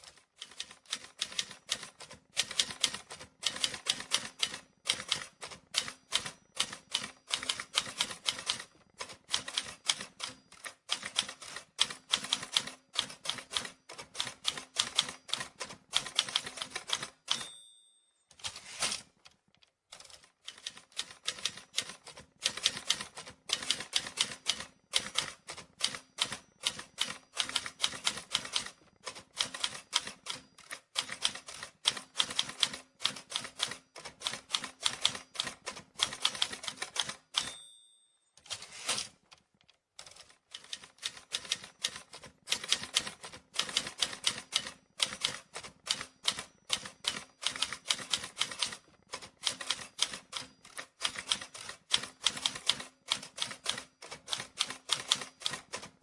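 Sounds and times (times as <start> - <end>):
typewriter keys clacking: 0.0 - 17.6, 18.3 - 37.6, 38.4 - 56.0
typewriter bell ring: 0.4 - 19.1, 20.0 - 39.2, 40.0 - 56.0.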